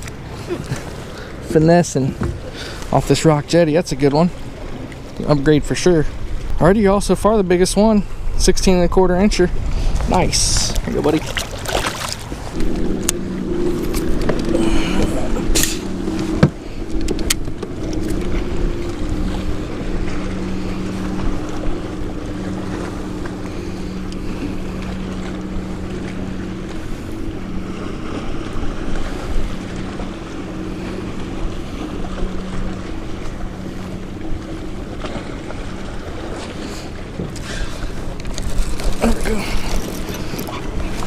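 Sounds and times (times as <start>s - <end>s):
boat motor humming: 0.0s - 41.0s
water lapping: 0.0s - 41.0s
wind on microphone: 6.1s - 41.0s.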